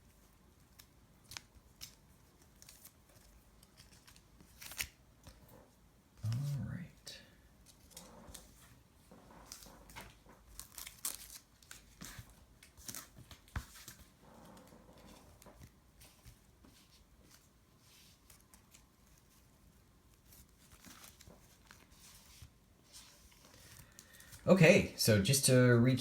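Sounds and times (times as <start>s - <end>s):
trading cards and sleeves rustling: 0.0s - 5.6s, 6.2s - 6.8s, 7.6s - 24.4s.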